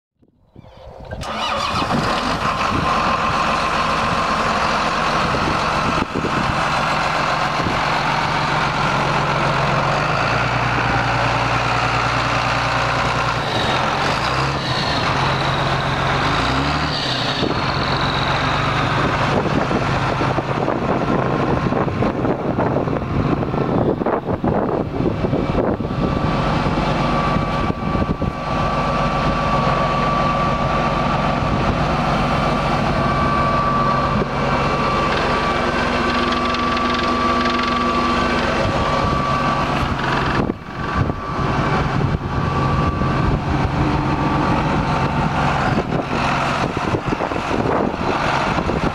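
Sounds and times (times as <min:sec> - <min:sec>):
tractor diesel engine running: 0:00.2 - 0:48.9.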